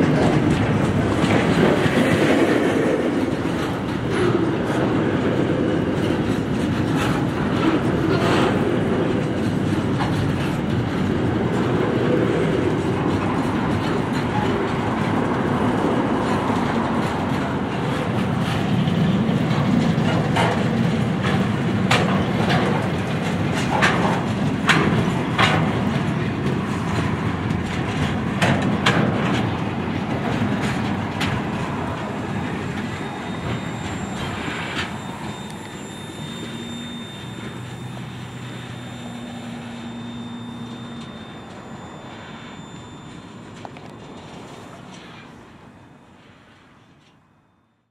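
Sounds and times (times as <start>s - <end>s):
sharp clanks and clicks: 0.0s - 45.3s
freight wagons rumbling: 0.0s - 46.1s.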